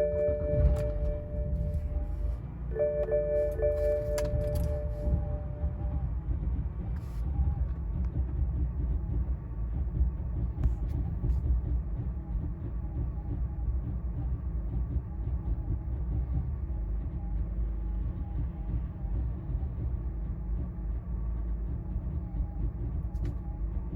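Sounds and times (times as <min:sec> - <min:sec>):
car engine idling roughly: 0:00.0 - 0:23.9.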